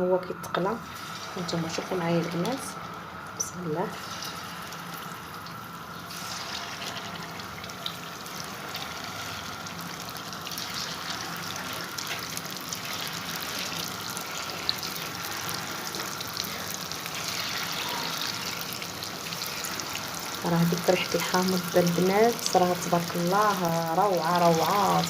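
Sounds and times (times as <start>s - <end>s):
dough sizzling in hot oil: 0.8s - 25.0s.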